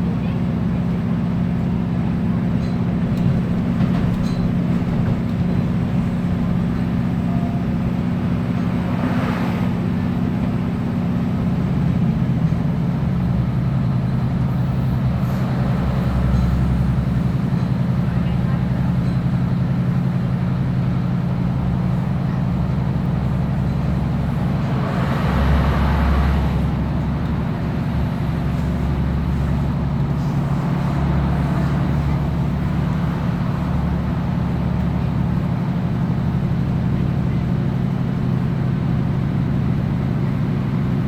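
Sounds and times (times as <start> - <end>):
train diesel engine drone: 0.0 - 41.0
wheel and track rumble: 0.0 - 41.0.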